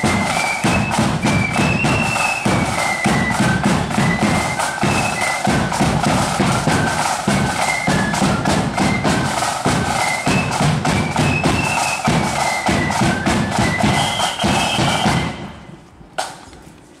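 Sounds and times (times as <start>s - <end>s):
rapid snare drumming: 0.0s - 15.6s, 16.2s - 16.4s
high flute melody: 0.0s - 15.9s.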